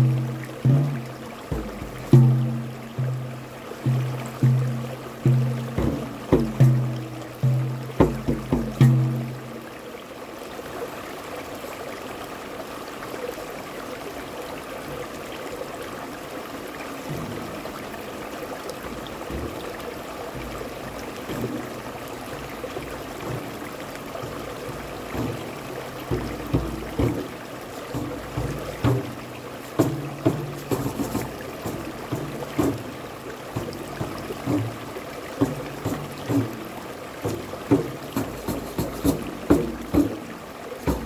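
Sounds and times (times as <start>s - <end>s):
low uneven thumps: 0.0s - 9.7s, 17.0s - 41.0s
stream rushing over rocks: 0.0s - 41.0s.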